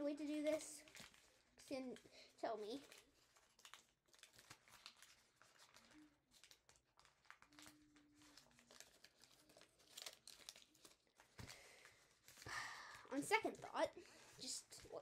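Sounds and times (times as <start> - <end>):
paper crinkling and rustling: 0.3 - 12.5, 13.1 - 15.0.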